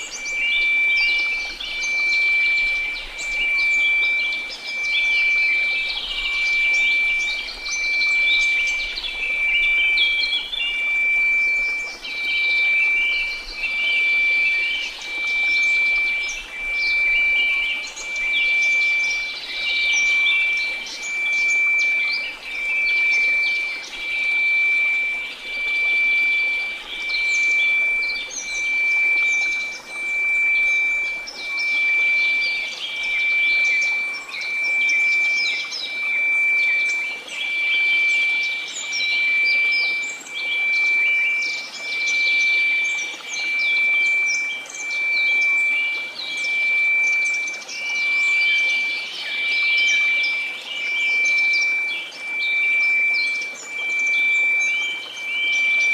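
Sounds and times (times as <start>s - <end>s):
pulsing high pure tone: 0.0s - 55.9s
small birds chirping: 0.0s - 55.9s.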